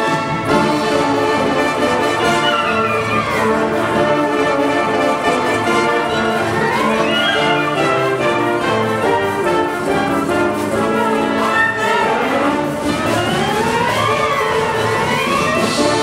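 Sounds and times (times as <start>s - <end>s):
wind orchestra playing chords: 0.0s - 16.0s.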